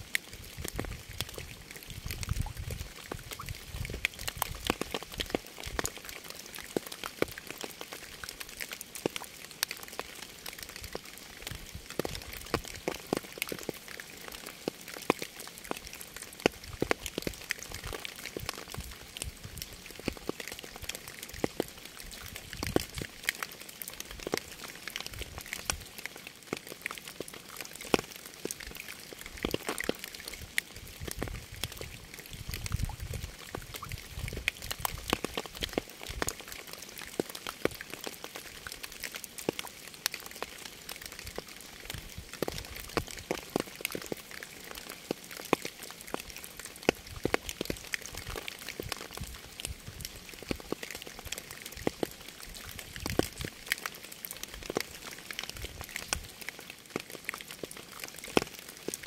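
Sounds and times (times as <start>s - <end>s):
rain falling: 0.0s - 59.0s
raindrops ticking on a surface: 0.0s - 59.0s.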